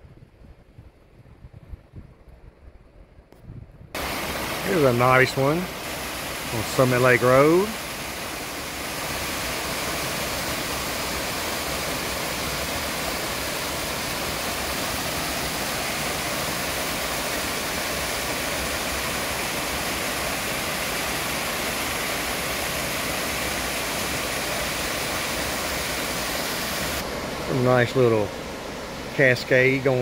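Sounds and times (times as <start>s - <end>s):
waterfall rushing: 4.0s - 30.0s.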